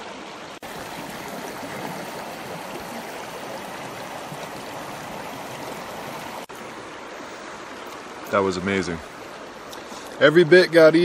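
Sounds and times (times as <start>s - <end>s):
stream rushing over boulders: 0.0s - 11.0s.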